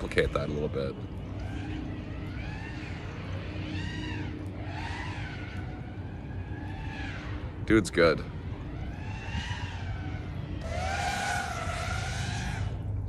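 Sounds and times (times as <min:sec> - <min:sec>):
drone motors whining: 0:00.0 - 0:13.0
steady low hum: 0:00.0 - 0:13.0.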